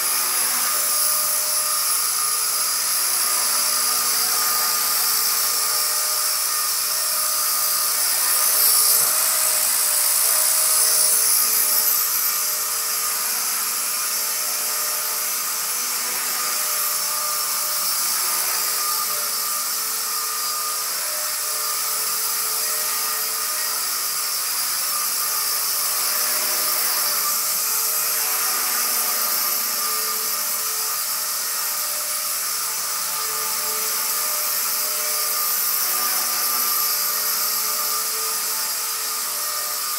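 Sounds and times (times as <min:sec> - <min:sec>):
toy helicopter rotor whine: 0:00.0 - 0:39.9.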